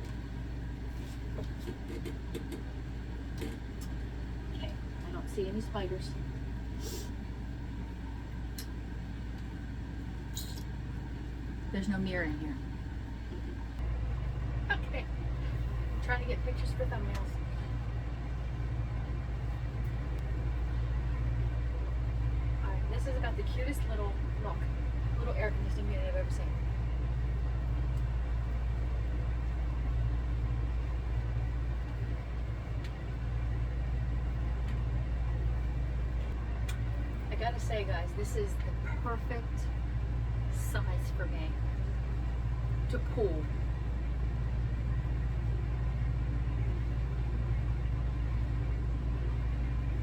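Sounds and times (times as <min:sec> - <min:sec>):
air conditioner humming: 0:00.0 - 0:50.0.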